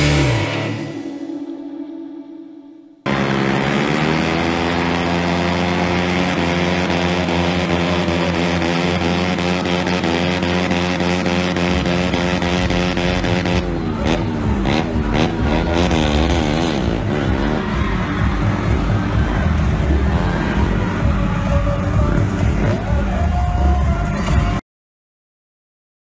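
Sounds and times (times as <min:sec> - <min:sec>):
motorcycle engines revving: 0:00.0 - 0:01.1, 0:03.1 - 0:24.6.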